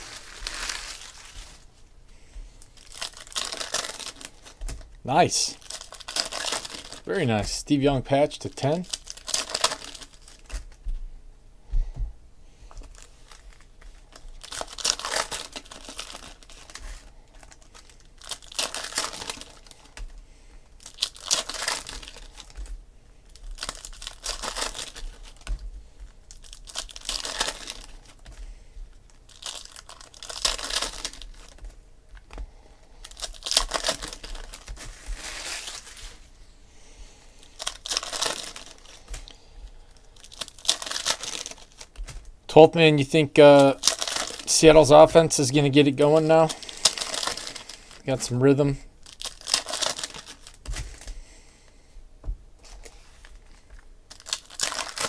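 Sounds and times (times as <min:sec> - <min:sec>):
foil wrappers crinkling and tearing: 0:00.0 - 0:10.8, 0:12.7 - 0:36.3, 0:37.4 - 0:51.6, 0:52.6 - 0:55.0.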